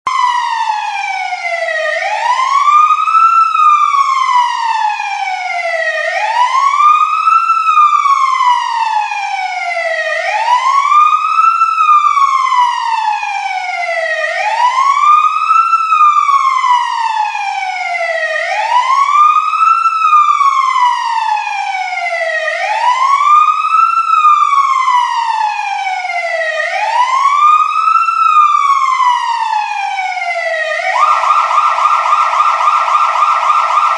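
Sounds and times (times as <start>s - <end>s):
fire truck siren wailing: 0.1s - 33.9s.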